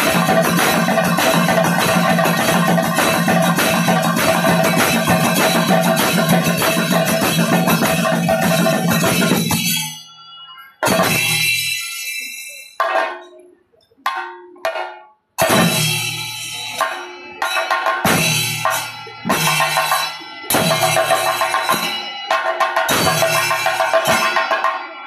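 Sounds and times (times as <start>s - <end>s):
drums playing fast: 0.0s - 10.0s, 10.8s - 13.3s, 14.0s - 25.0s
hand cymbals ringing: 0.0s - 25.0s.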